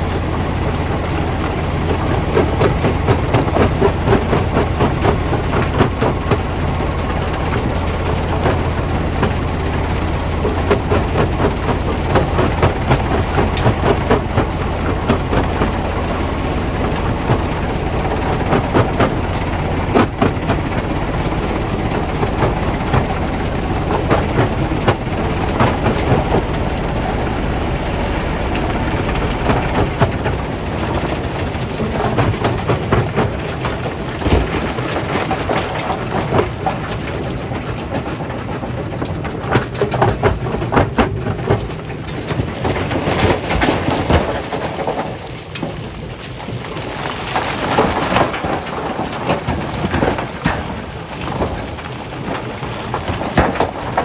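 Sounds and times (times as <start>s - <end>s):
heavy machinery humming: 0.0s - 54.0s.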